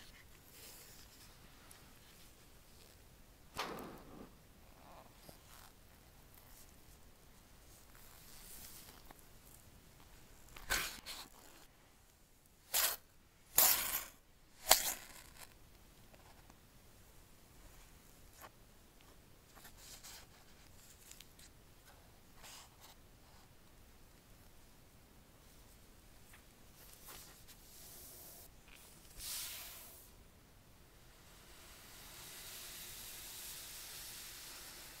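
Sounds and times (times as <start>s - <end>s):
faint steady hiss: 0.0s - 35.0s.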